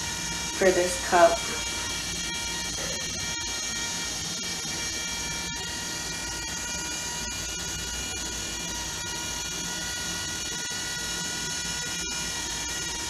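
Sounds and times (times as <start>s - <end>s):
electric motor humming and whining: 0.0s - 13.0s.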